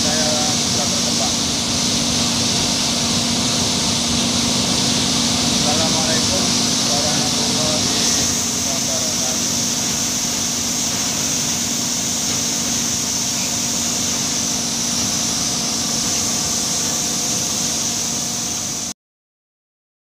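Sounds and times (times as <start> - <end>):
threshing drum running: 0.0 - 18.9.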